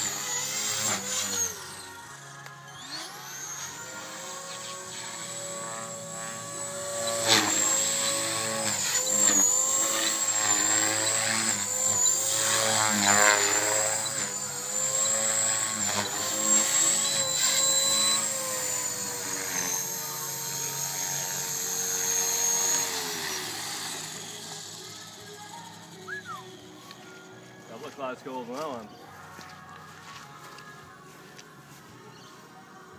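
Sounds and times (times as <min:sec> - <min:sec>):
rc helicopter motor whine: 0:00.0 - 0:30.0.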